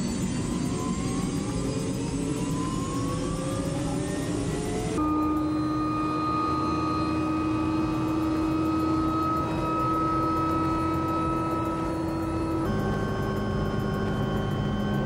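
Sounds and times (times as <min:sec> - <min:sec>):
helicopter engine and rotor drone: 0:00.0 - 0:15.0
helicopter whine: 0:00.0 - 0:15.0.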